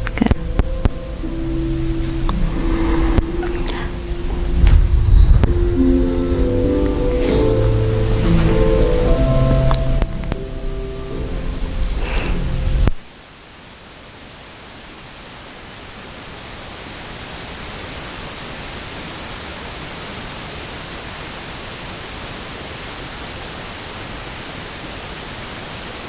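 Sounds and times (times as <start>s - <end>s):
steady static hiss: 0.0s - 26.0s.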